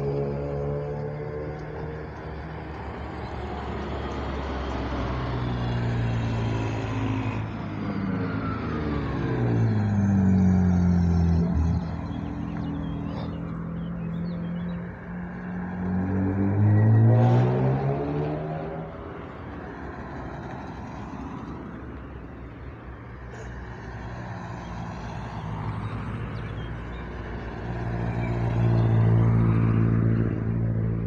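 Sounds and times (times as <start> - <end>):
race cars driving past: 0.0 - 31.0.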